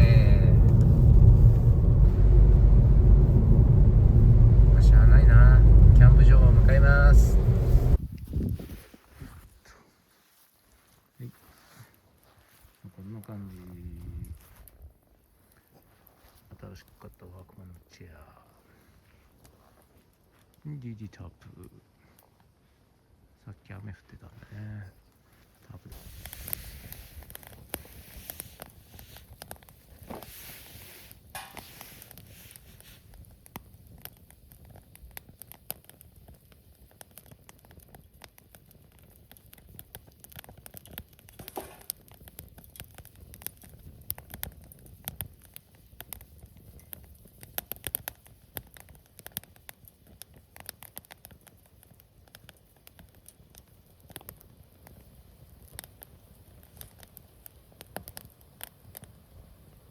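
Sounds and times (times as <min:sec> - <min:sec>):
campfire crackling and popping: 0:00.0 - 0:08.3, 0:13.0 - 0:23.3, 0:23.9 - 0:59.9
low rumble of burning: 0:00.0 - 0:09.4, 0:12.8 - 0:59.9.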